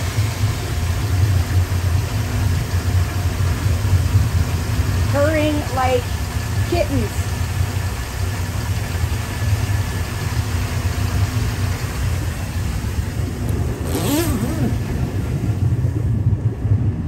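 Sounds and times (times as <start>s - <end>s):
boat engines idling low rumble: 0.0s - 17.0s.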